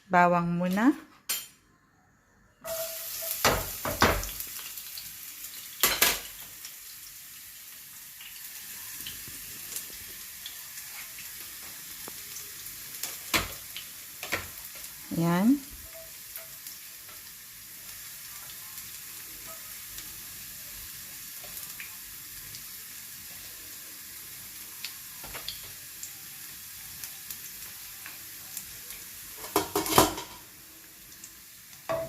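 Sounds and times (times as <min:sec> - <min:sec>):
garlic sizzling in hot oil: 0:02.7 - 0:32.0.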